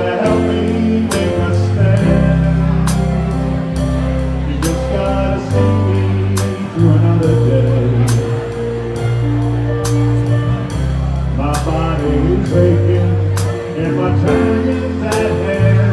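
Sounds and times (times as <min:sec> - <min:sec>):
big band playing slow song: 0:00.0 - 0:15.9.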